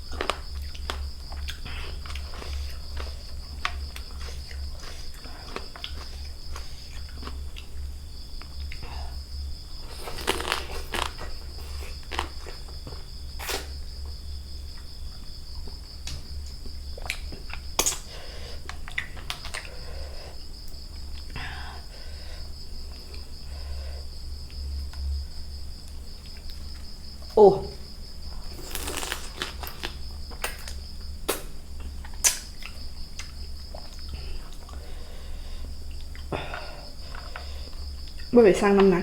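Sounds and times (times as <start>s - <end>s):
insect trill: 0.0s - 39.0s
people chewing and crunching: 0.0s - 39.0s.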